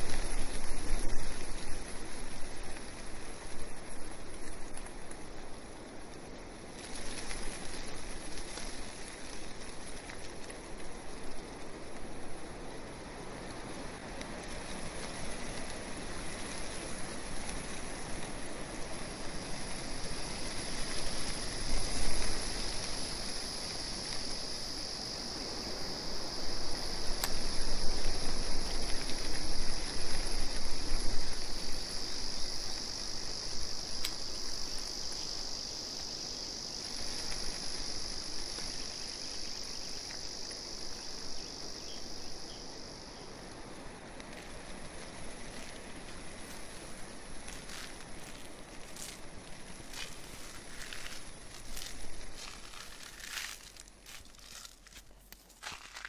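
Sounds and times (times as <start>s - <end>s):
background hiss: 0.0s - 56.0s
insects trilling: 0.0s - 56.0s.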